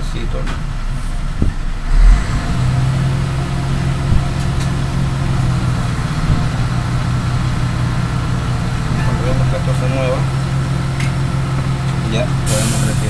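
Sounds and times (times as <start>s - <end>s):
hot air station blowing: 0.8s - 13.0s.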